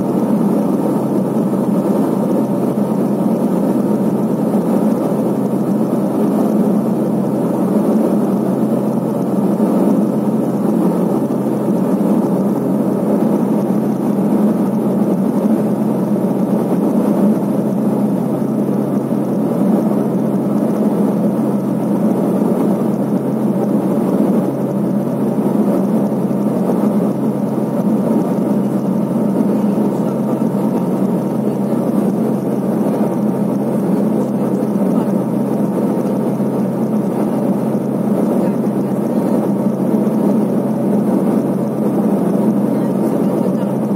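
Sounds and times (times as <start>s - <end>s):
propeller plane cabin drone: 0.0s - 43.9s.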